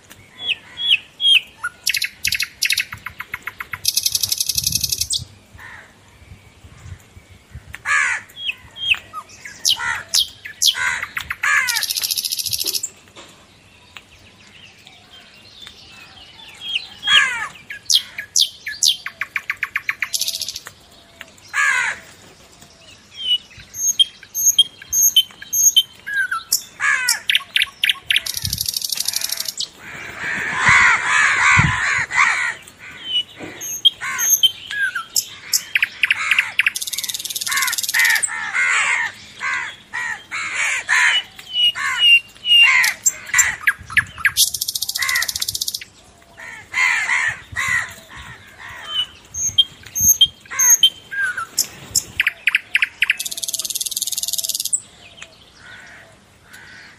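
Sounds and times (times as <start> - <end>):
birds chirping and trilling: 0.0 - 56.9.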